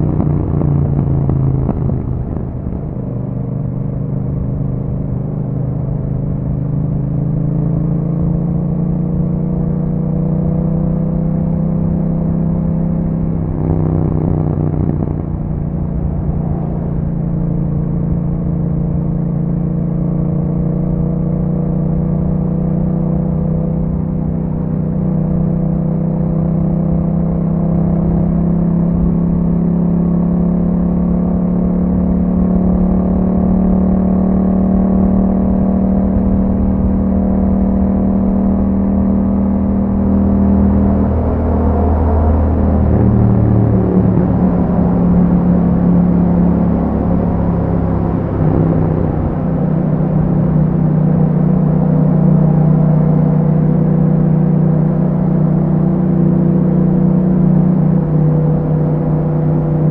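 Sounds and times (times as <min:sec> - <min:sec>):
motorcycle engine rising in pitch: 0:00.0 - 0:59.9.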